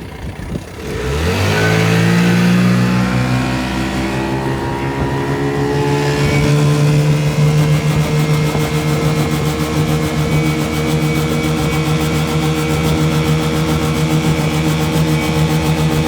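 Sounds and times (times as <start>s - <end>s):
outboard motor at full throttle: 0.0s - 16.0s.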